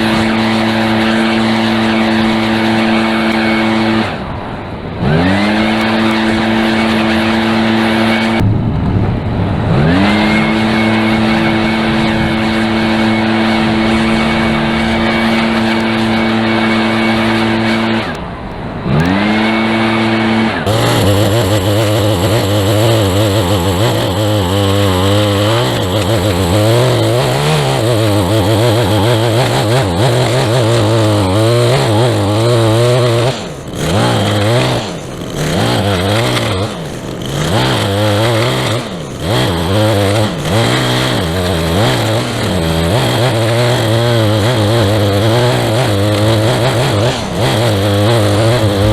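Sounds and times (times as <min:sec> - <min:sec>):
small gas engine revving: 0:00.0 - 0:48.9.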